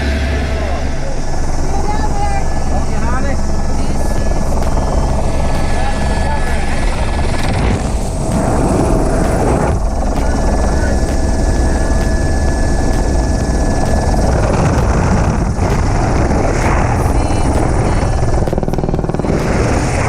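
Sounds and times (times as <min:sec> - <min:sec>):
helicopter rotor and engine: 0:00.0 - 0:20.0.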